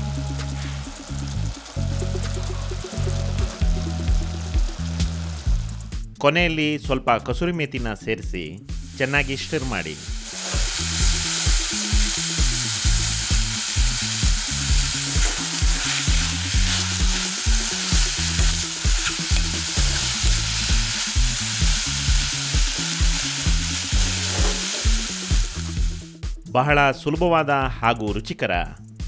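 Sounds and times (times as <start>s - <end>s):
vegetables sizzling in oil: 0.0s - 5.9s, 8.7s - 26.1s.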